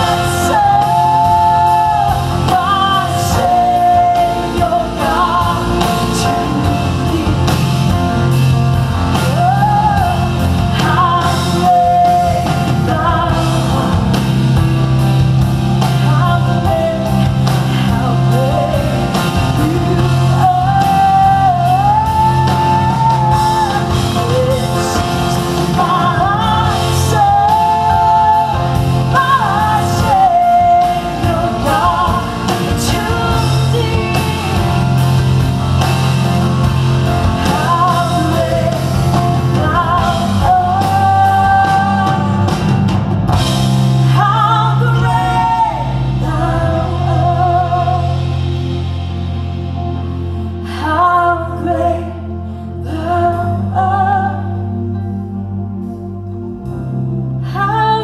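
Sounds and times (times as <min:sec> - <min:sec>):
woman singing: 0:00.0 - 0:48.6, 0:50.6 - 0:55.4, 0:57.4 - 0:58.0
rock band playing: 0:00.0 - 0:58.0.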